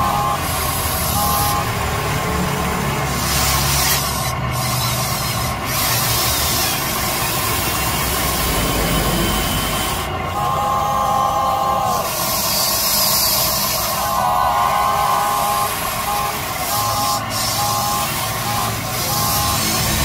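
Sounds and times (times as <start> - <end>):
toy excavator motors grinding: 0.0 - 20.0.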